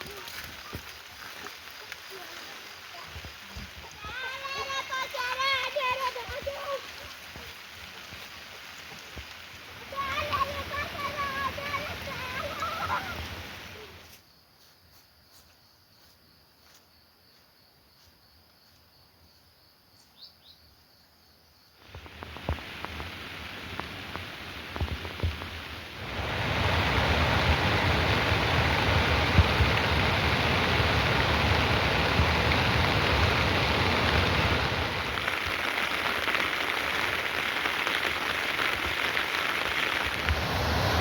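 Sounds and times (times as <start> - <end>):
water drips: 0.0 - 13.8, 21.8 - 41.0
heavy rain: 0.0 - 14.0, 21.8 - 41.0.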